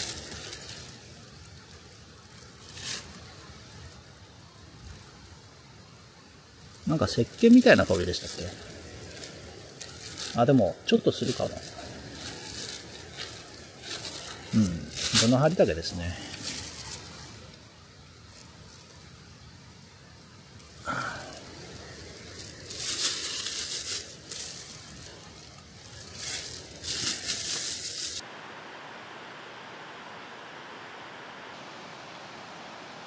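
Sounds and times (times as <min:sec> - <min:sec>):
crinkling and rustling: 0:00.0 - 0:05.3, 0:06.4 - 0:19.5, 0:20.1 - 0:28.2
steady hiss: 0:00.0 - 0:33.0.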